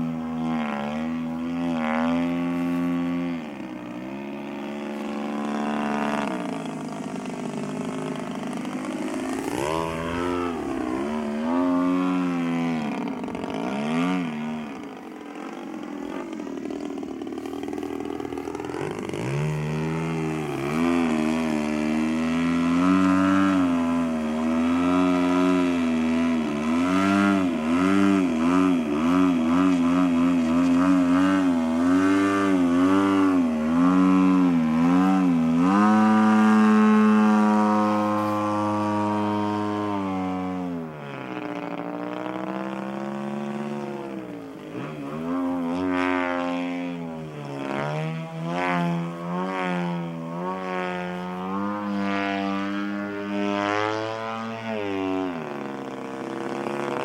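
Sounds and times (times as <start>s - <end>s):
model plane engine wavering: 0.0s - 57.0s.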